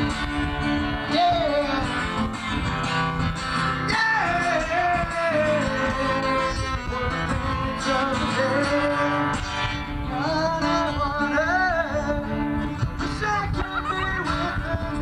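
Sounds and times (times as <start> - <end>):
acoustic guitars: 0.0 - 15.0.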